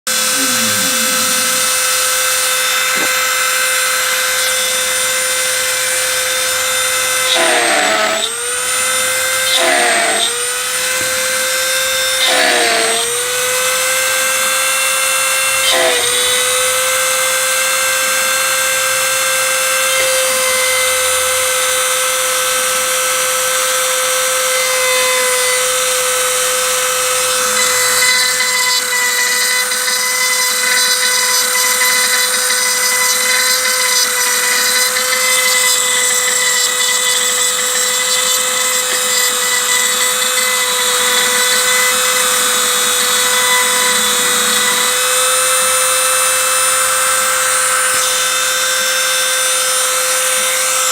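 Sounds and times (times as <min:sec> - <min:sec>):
router spindle whining cutting metal: 0:00.1 - 0:50.9.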